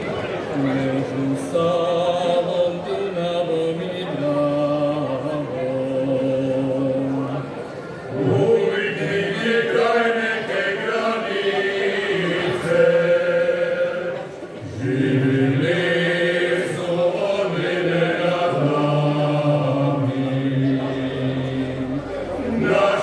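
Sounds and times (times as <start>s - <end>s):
male choir singing unaccompanied: 0.0s - 7.5s, 8.1s - 23.0s.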